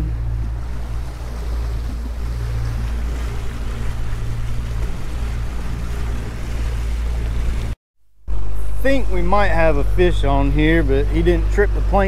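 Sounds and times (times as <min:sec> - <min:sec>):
boat wake rushing: 0:00.0 - 0:12.0
outboard motor running: 0:00.0 - 0:12.0.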